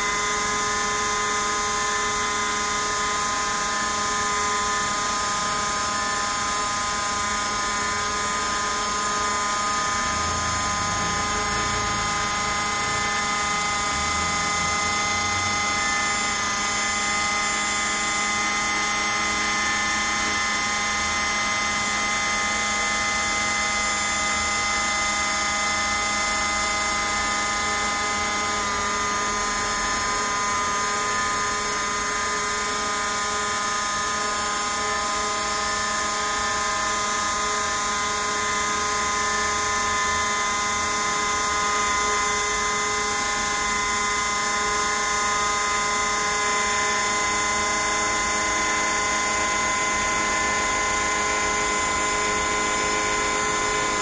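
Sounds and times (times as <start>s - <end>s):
router spindle whining: 0.0s - 54.0s.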